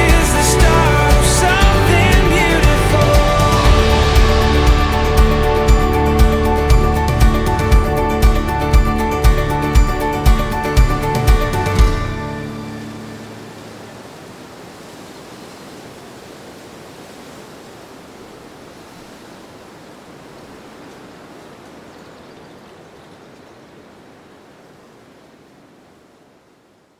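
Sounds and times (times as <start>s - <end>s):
steady rushing outdoor ambience: 0.0s - 25.9s.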